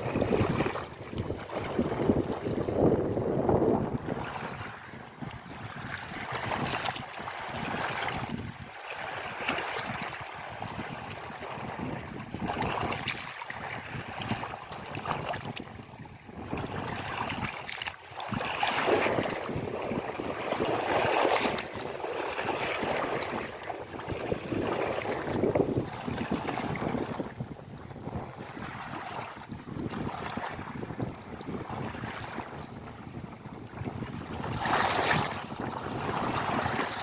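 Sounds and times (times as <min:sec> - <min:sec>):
river water flowing and splashing: 0:00.0 - 0:37.0.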